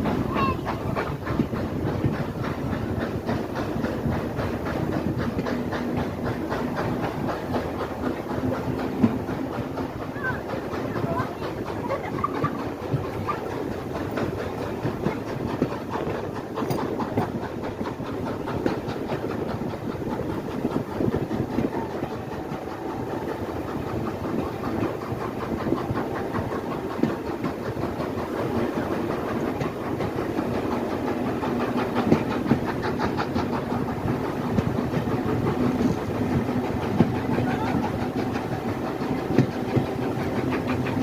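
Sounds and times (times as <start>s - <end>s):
train rumble: 0.0s - 41.0s
wheels clattering over rails: 0.0s - 41.0s.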